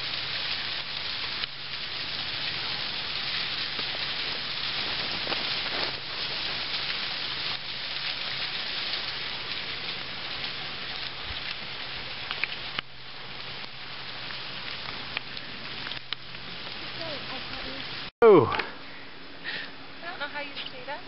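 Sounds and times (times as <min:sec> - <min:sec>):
waterfall hissing: 0:00.0 - 0:18.4.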